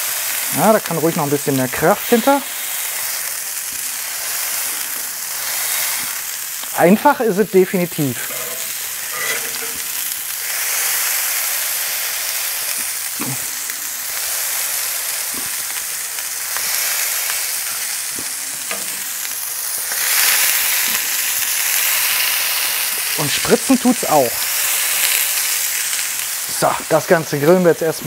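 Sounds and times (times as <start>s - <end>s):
meat sizzling on a hot plate: 0.0s - 28.0s.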